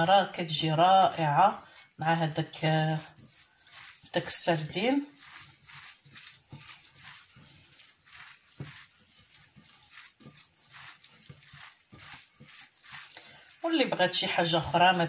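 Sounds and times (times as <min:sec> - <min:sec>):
hand squishing rice stuffing: 0:00.0 - 0:15.0.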